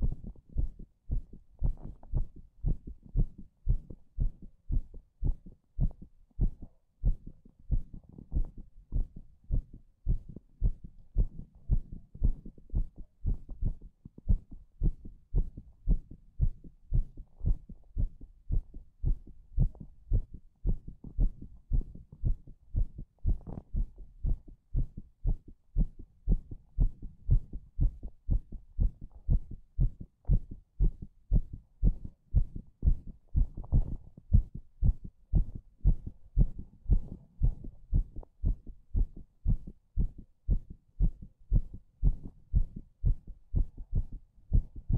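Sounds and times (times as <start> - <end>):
heartbeat thumps: 0.0 - 44.9.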